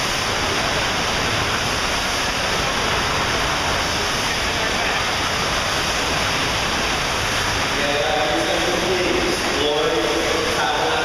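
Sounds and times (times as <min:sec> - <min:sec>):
rushing water hiss: 0:00.0 - 0:11.0.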